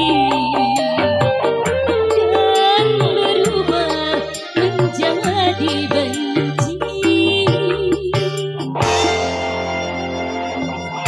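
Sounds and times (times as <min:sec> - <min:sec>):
hand drums beating: 0:00.0 - 0:09.2
live band playing: 0:00.0 - 0:11.0.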